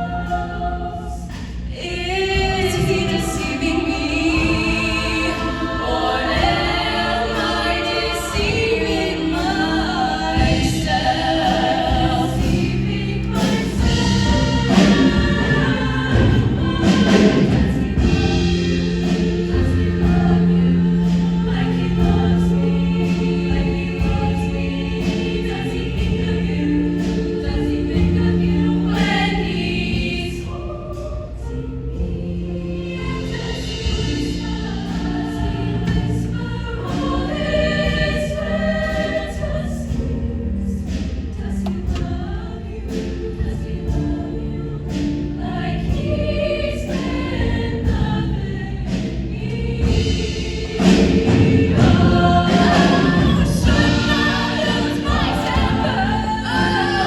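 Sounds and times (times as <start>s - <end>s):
choir singing with accompaniment: 0.0s - 57.0s.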